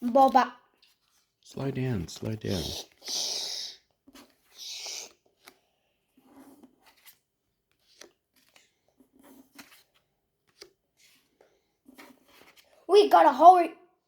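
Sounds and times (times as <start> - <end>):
trading cards rustling: 0.0 - 12.9.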